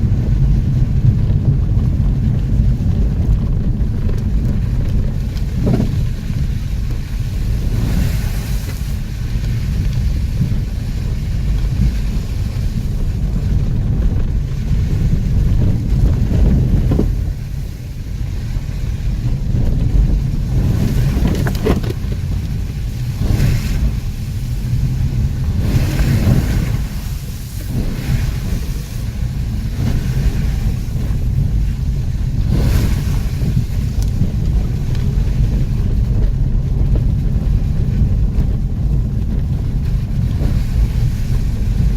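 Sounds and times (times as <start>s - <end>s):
off-road vehicle engine rumble: 0.0s - 41.9s
wind buffeting microphone: 0.0s - 41.9s.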